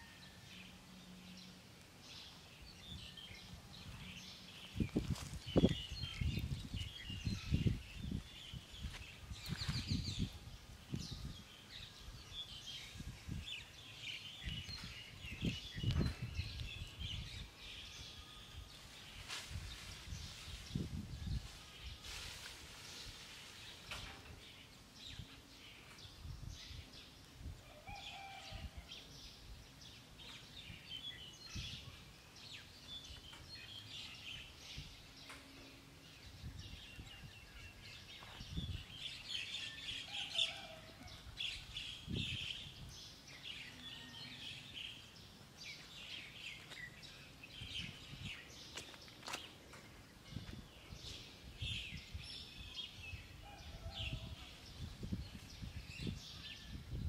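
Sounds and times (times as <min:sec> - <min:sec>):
birds chirping and calling: 0:00.0 - 0:22.2, 0:22.8 - 0:57.0
steady outdoor background: 0:00.0 - 0:57.0.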